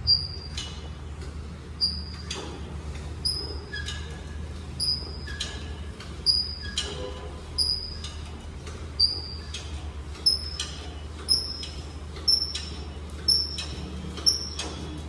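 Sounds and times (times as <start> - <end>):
exercise machine squeaking: 0.0 - 15.0
steady low hum: 0.0 - 15.0.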